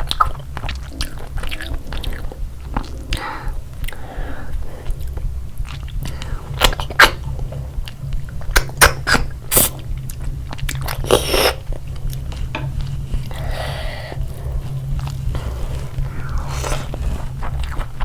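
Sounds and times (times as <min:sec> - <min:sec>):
steady low hum: 0:00.0 - 0:18.0
wet chewing and crunching: 0:00.0 - 0:18.0.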